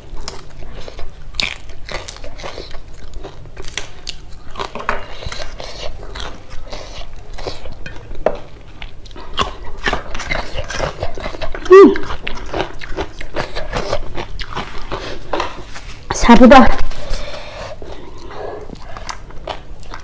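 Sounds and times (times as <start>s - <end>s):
close chewing with crisp crunches: 0.0s - 20.0s.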